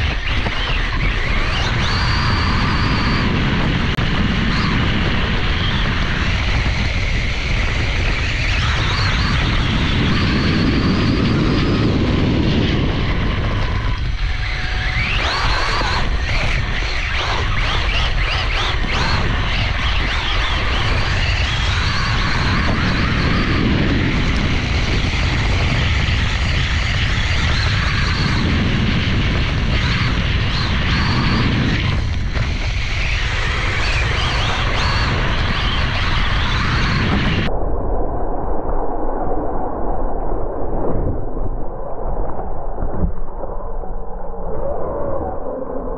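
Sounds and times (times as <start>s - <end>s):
electric motor whining: 0.0s - 37.5s
wind rumble on microphone: 0.0s - 45.9s.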